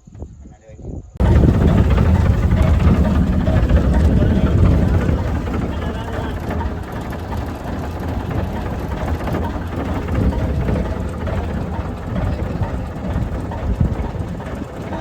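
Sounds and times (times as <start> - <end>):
excavator engine running: 1.2 - 15.0.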